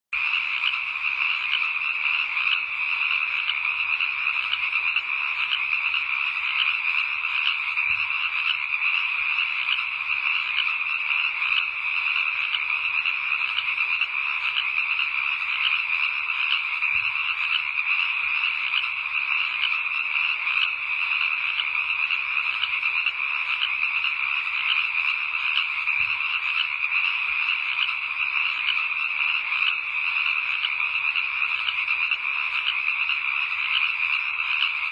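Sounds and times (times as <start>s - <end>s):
frogs chorus trilling: 0.2s - 34.9s.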